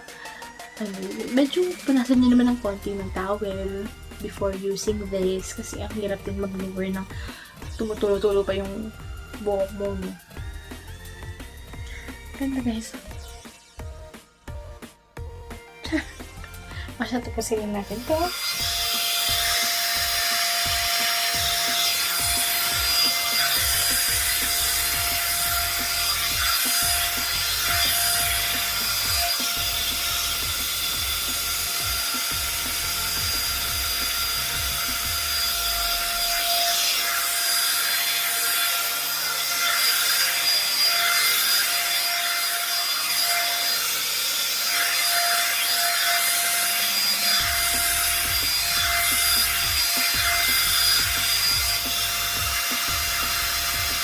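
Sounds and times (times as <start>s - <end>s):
hair dryer brush motor whine: 0.0s - 54.0s.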